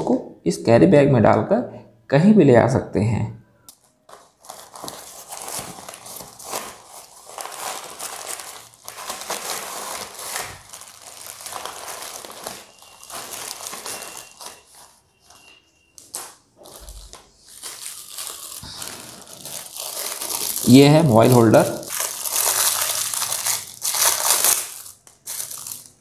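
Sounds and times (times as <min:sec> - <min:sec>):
bag and plastic wrap crinkling: 0:03.7 - 0:26.0.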